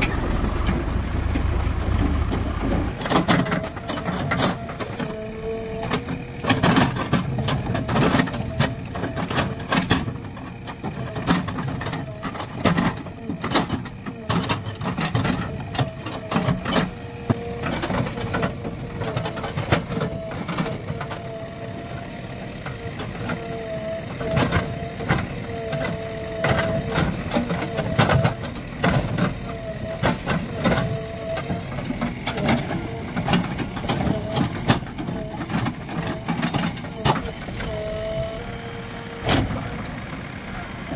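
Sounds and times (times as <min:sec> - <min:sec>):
diesel engine under load: 0:00.0 - 0:40.9
hydraulic whine: 0:00.0 - 0:40.9.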